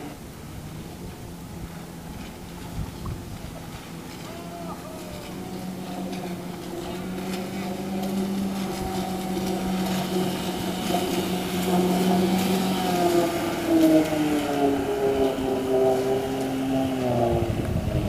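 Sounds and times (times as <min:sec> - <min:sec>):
outboard motor droning: 0:00.0 - 0:18.0.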